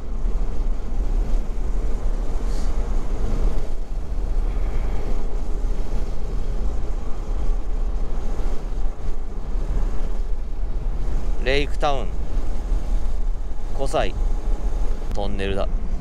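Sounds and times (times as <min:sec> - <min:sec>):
road noise: 0:00.0 - 0:16.0
wind rumble: 0:00.0 - 0:16.0.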